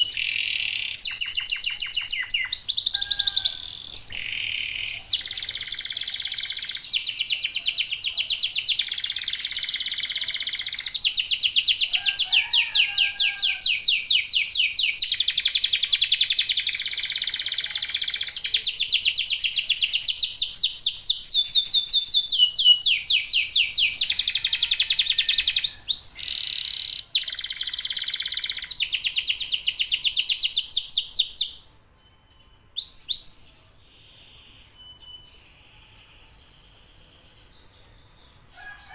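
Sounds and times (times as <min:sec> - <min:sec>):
canaries singing trills: 0:00.0 - 0:38.9.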